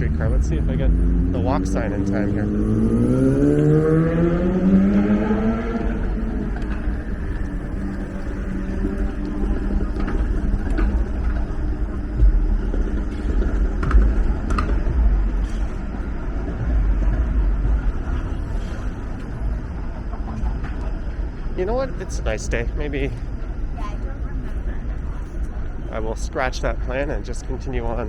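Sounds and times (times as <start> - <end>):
traffic rumbling: 0.0 - 28.0.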